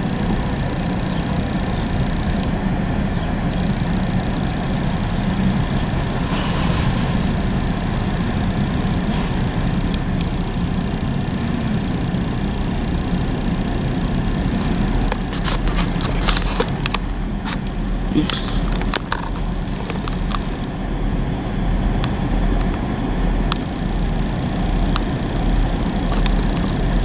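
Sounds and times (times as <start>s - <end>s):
heavy vehicle rumble: 0.0s - 27.0s.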